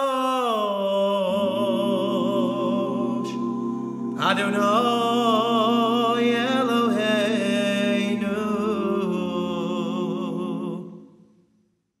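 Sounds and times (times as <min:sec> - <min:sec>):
cantor singing: 0:00.0 - 0:11.2
sustained low harmony: 0:01.2 - 0:11.2.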